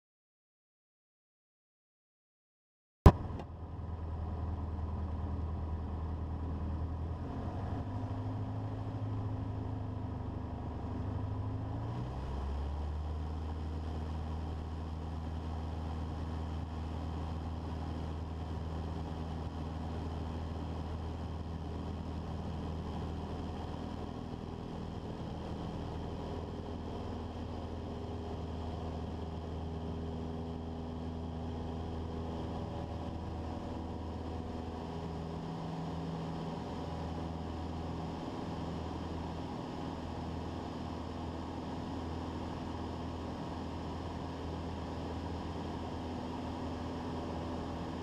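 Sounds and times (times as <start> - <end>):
light aircraft engine and propeller: 3.1 - 48.0.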